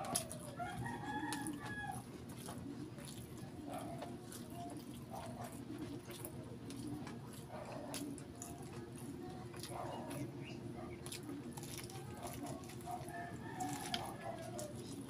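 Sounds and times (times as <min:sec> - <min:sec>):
chewing with wet clicks: 0:00.0 - 0:15.0
steady low hum: 0:00.0 - 0:15.0.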